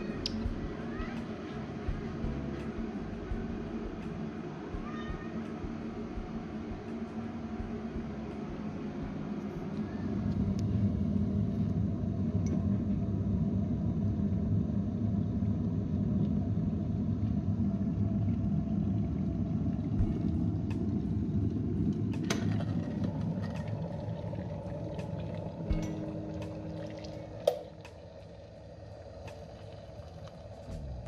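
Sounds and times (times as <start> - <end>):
kettle water heating rumble: 0.0 - 31.0.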